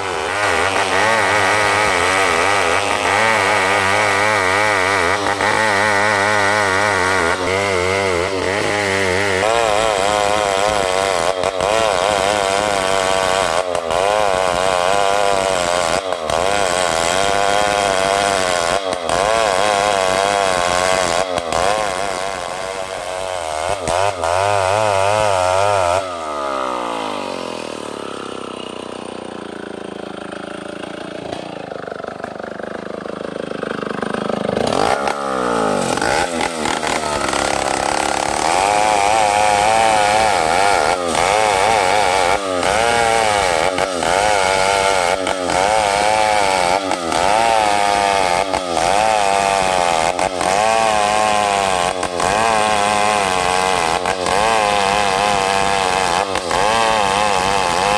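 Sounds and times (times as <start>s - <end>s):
chainsaw cutting log: 0.0s - 57.9s.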